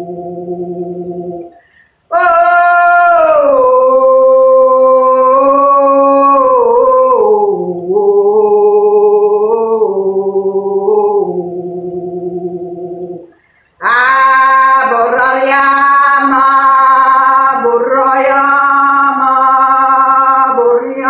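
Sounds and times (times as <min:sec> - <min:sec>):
woman singing wordless tones: 0:00.0 - 0:21.0.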